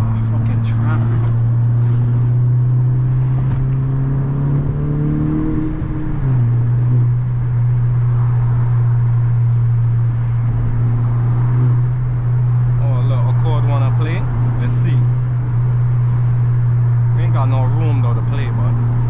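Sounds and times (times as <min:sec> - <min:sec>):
car engine running while driving: 0:00.0 - 0:19.0.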